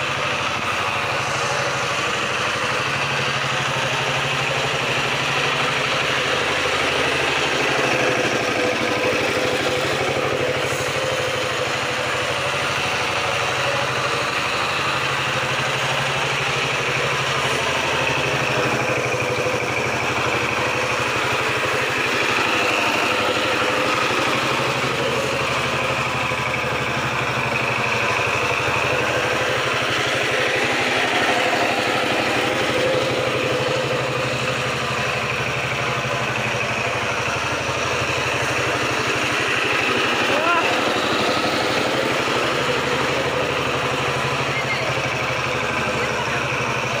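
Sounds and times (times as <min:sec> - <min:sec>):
diesel tiller engine running: 0:00.0 - 0:47.0.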